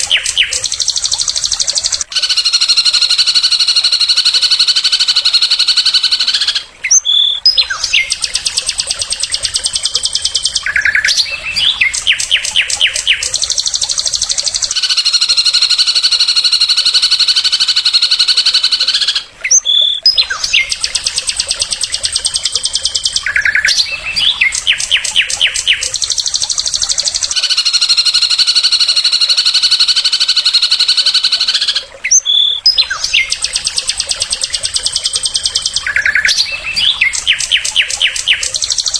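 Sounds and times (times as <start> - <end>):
songbird sharp notes: 0.0 - 38.9.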